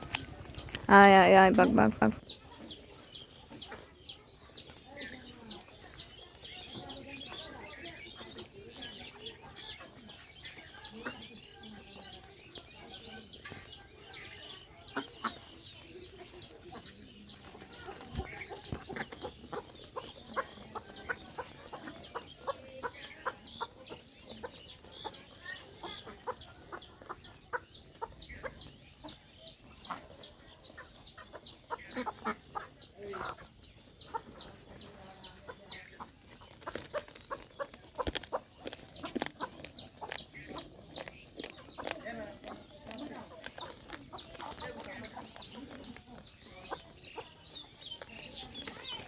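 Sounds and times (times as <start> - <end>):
birds pecking at rice: 0.0 - 49.0
chickens clucking: 0.0 - 49.0.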